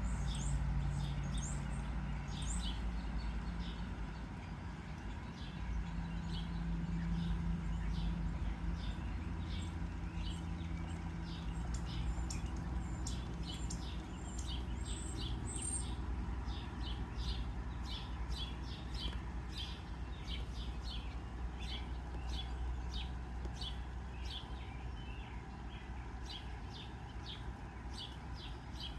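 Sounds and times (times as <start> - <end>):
low background rumble: 0.0 - 28.9
small birds chirping: 0.0 - 28.9.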